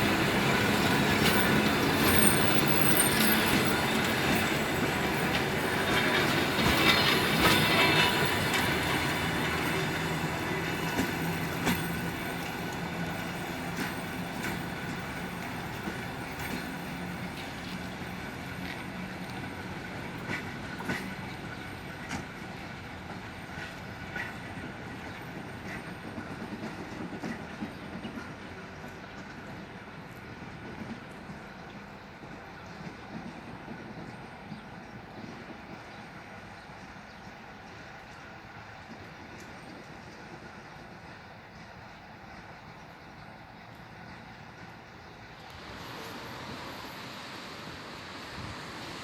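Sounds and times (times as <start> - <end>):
train wheel squeal: 0.0 - 31.1, 39.7 - 49.0
clacks over rail joints: 0.0 - 45.6
train rumbling on rails: 0.0 - 49.0.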